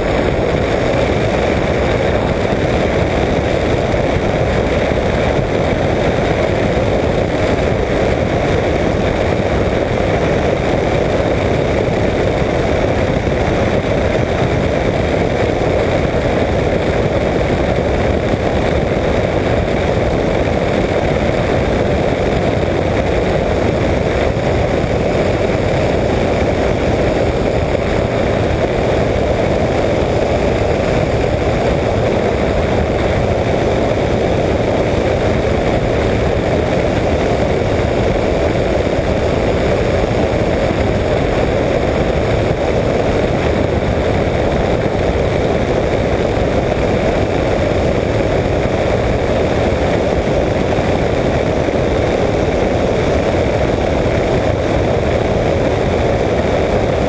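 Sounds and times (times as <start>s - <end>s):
microlight engine and propeller drone: 0.0s - 57.0s.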